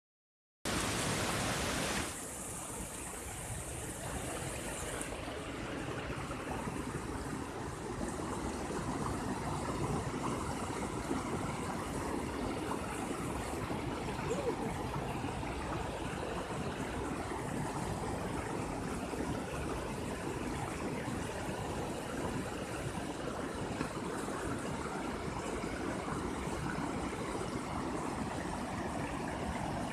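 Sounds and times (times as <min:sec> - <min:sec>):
stream splashing over rocks: 0:00.7 - 0:29.9.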